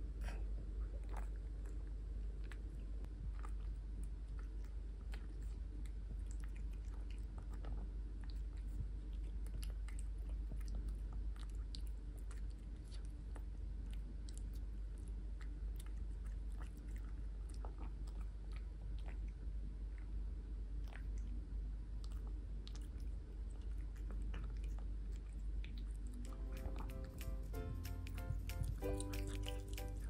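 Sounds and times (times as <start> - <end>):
cat chewing food: 0.0 - 30.0
steady low hum: 0.0 - 30.0.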